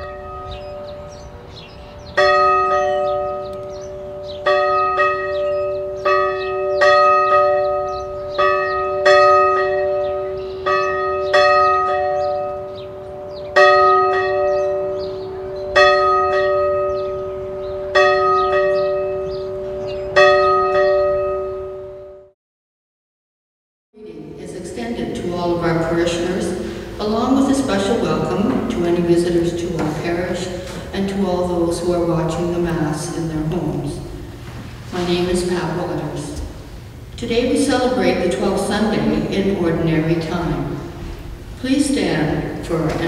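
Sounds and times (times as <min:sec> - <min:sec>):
church bell tolling: 0:00.0 - 0:22.3, 0:24.6 - 0:43.0.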